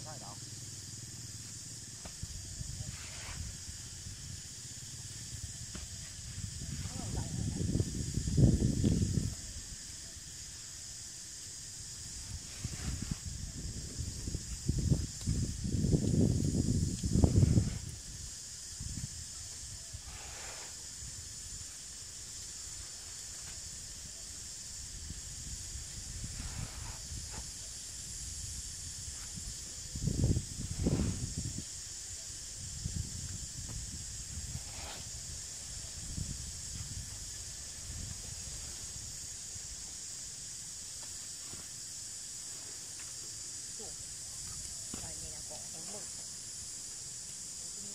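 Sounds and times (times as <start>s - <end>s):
steady high hiss: 0.0s - 47.9s.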